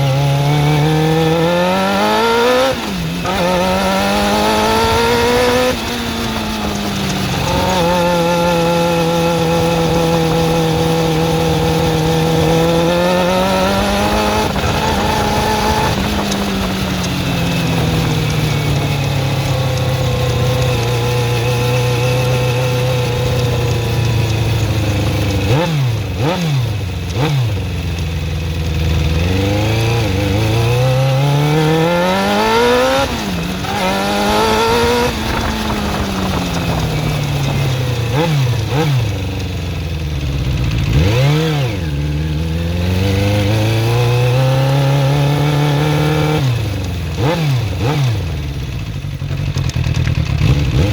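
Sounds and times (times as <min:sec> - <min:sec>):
engine revving: 0:00.0 - 0:50.9
engine ticking: 0:02.7 - 0:30.6, 0:32.4 - 0:50.9.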